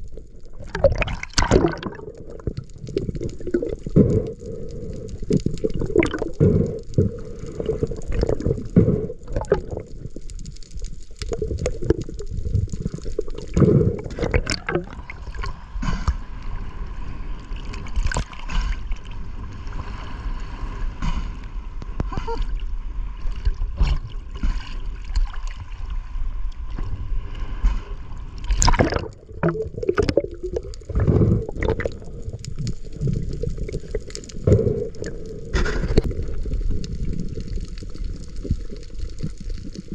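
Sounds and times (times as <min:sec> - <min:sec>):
sea water sloshing and splashing: 0:00.0 - 0:21.4, 0:22.2 - 0:39.9.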